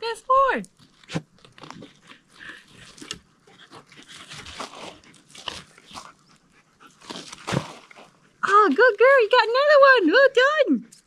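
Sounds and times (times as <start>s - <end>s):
dogs paws scratching soil: 0.0s - 11.0s.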